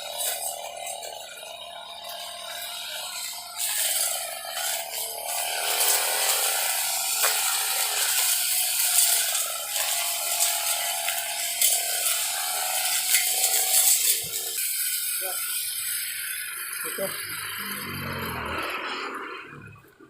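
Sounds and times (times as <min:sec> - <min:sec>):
brush cutter whirring and rattling: 0:00.0 - 0:20.0.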